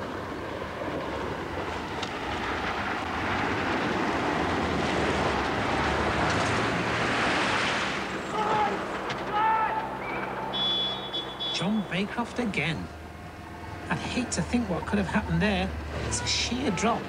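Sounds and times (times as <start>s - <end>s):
vehicle engines on rough ground: 0.0s - 17.0s.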